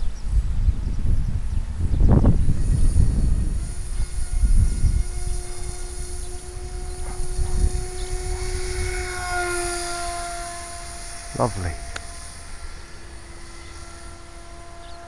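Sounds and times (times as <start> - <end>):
low rumble on microphone: 0.0 - 15.0
model plane motor whine: 0.0 - 15.0.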